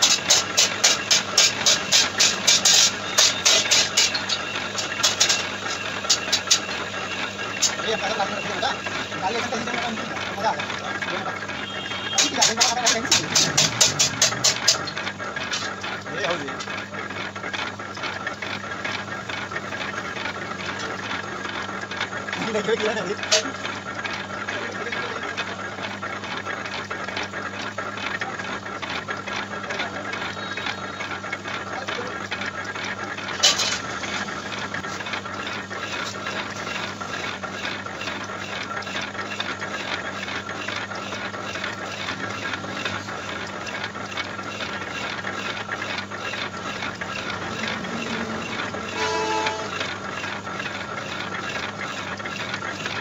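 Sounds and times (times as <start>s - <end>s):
fast regular ticking: 0.0s - 53.0s
lathe motor humming: 0.0s - 53.0s.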